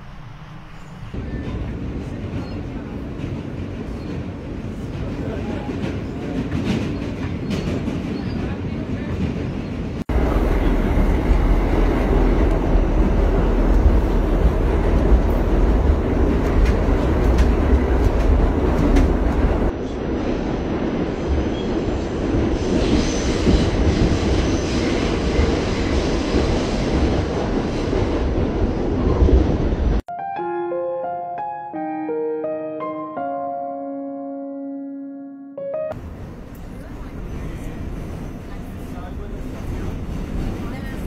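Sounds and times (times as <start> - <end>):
train rattling and clatter: 0.0 - 30.0, 36.0 - 41.0
subway train low rumble: 0.0 - 30.1, 35.9 - 41.0.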